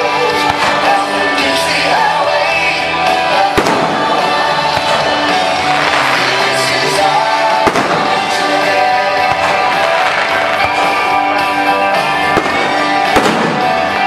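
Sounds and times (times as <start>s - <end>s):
music with singing: 0.0s - 14.0s
fireworks bangs: 0.3s - 2.2s, 3.0s - 14.0s.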